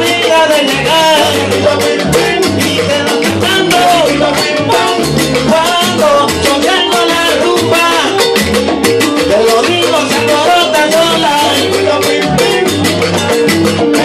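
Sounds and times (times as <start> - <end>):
bass line: 0.0 - 14.0
guiro scraping in rhythm: 0.0 - 14.0
latin percussion: 0.0 - 14.0
man singing: 0.0 - 14.0
salsa band playing: 0.0 - 14.0.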